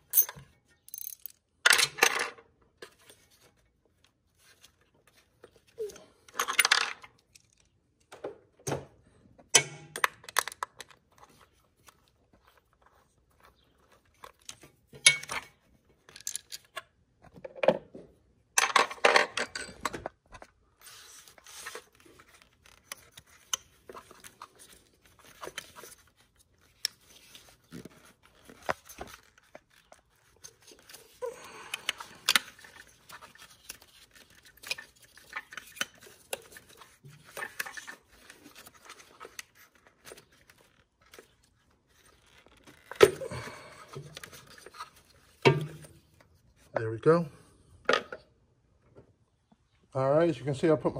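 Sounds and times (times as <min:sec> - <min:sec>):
hands and tools clicking and scraping: 0:00.0 - 0:08.5, 0:09.3 - 0:17.9, 0:18.6 - 0:46.7.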